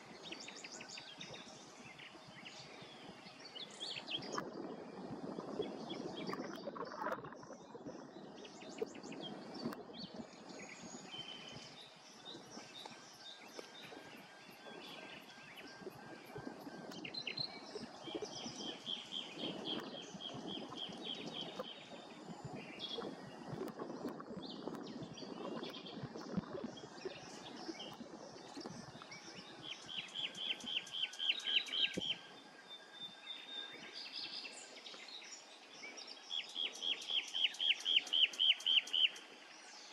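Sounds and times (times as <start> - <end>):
small birds singing: 0.0 - 39.9
steady low background noise: 7.8 - 39.9.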